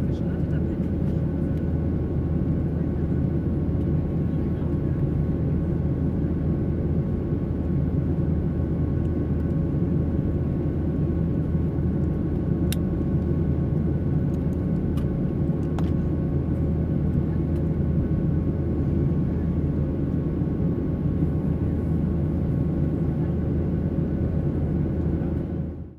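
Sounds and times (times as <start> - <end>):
jet engine drone in cabin: 0.0 - 25.9.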